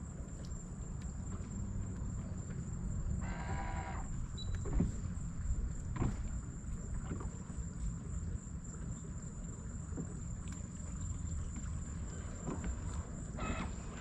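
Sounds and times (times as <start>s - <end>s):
boat motor running slowly: 0.0s - 14.0s.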